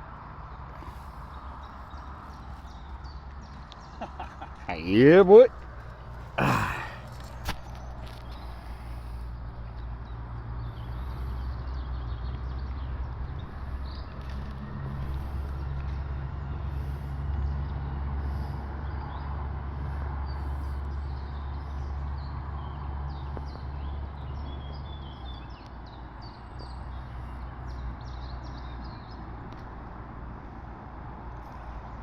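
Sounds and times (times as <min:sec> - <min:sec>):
small birds chirping: 0:00.0 - 0:30.5.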